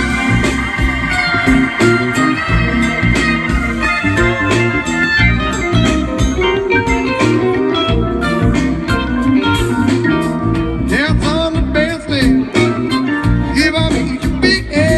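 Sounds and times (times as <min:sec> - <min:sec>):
live rock band playing: 0:00.0 - 0:14.9.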